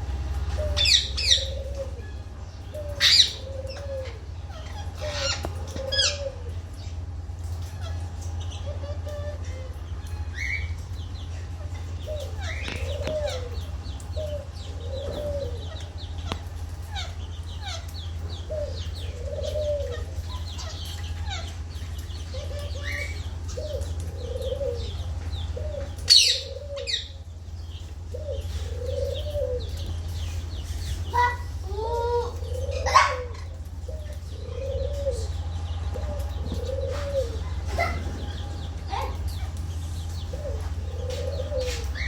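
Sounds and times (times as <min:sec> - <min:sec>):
steady low hum: 0:00.0 - 0:42.0
parrots chirping and calling: 0:00.3 - 0:42.0.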